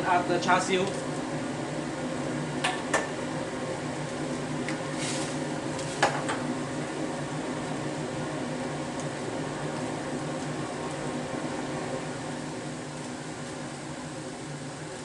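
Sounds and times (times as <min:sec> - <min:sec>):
gas wok range roar: 0:00.0 - 0:15.0
water boiling in a wok: 0:00.1 - 0:15.0.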